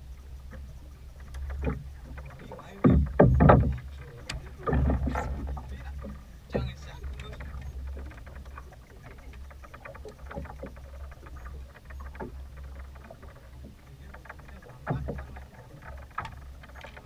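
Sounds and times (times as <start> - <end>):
low steady rumble: 0.0 - 17.0
waves slapping boat hull: 0.0 - 17.0.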